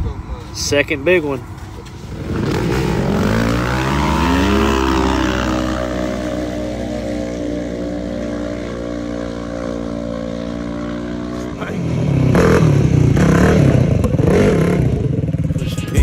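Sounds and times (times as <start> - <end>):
vehicle engine revving: 1.2 - 16.0.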